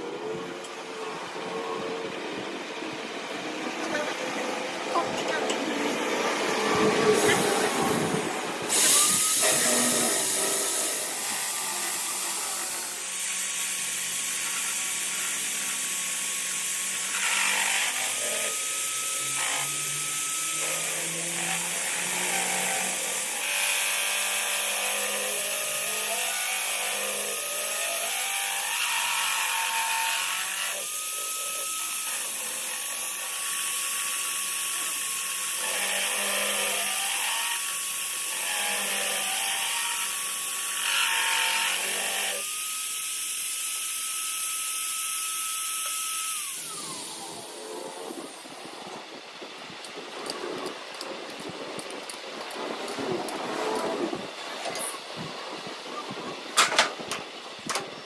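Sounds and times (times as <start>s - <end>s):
power tool whining on metal: 0.0s - 58.0s.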